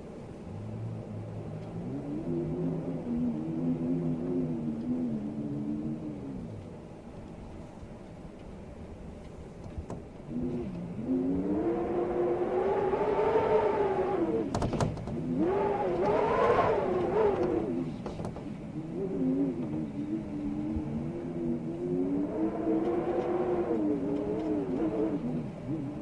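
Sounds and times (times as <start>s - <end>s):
storm wind howling: 0.0s - 26.0s.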